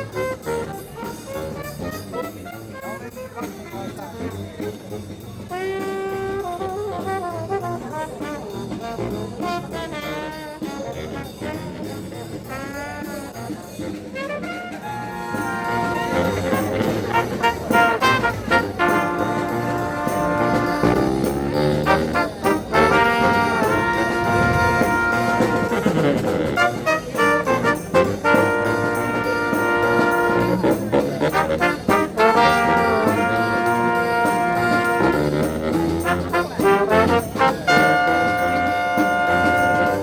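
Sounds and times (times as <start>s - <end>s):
jazz brass music: 0.0s - 40.0s.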